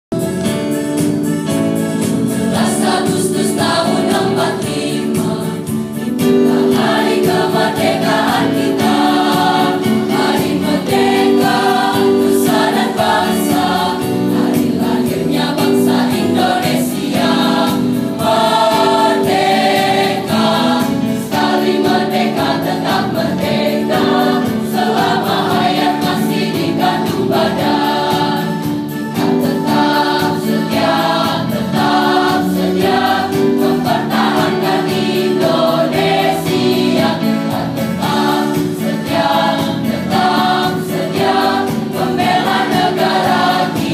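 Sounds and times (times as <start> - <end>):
children's choir singing: 1.6 - 43.9.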